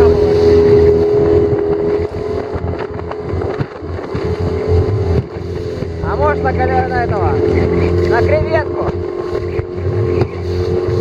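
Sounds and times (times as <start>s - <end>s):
outboard motor droning: 0.0s - 11.0s
wind on microphone: 0.0s - 11.0s.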